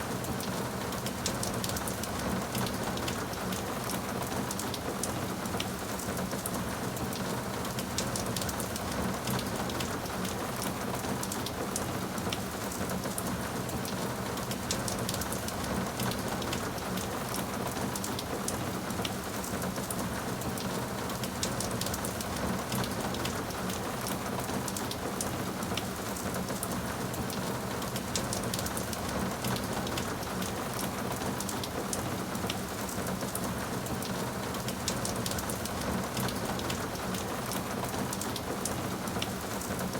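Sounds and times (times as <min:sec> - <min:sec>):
steady rainfall pattering: 0:00.0 - 0:39.9.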